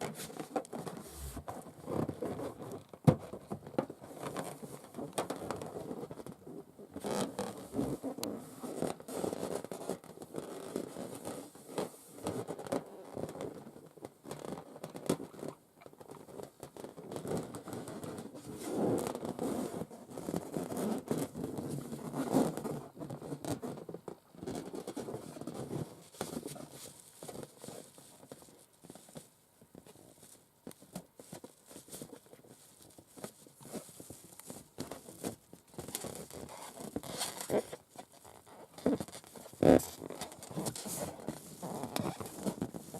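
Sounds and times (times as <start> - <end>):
nails scratching on balloons: 0.0 - 3.0, 4.0 - 13.6, 14.3 - 42.9.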